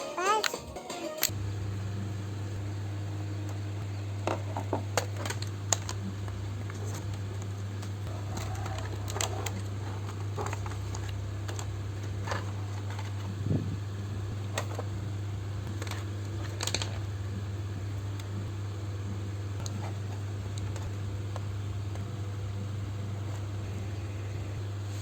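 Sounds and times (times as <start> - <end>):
steady low hum: 1.2 - 25.0.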